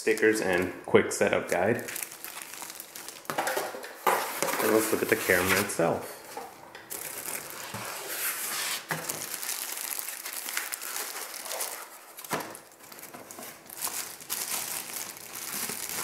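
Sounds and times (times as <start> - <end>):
packaging rustling and crinkling: 0.0 - 0.8, 1.5 - 16.0.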